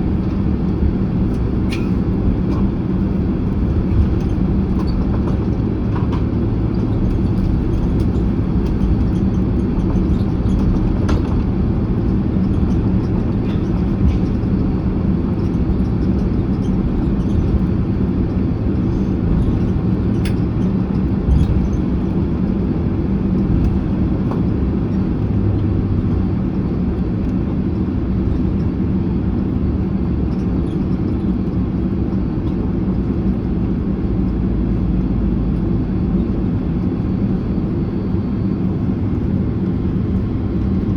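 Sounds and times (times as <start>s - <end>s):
engines idling rumble: 0.0s - 27.4s, 34.2s - 40.9s
air conditioning: 0.0s - 40.9s.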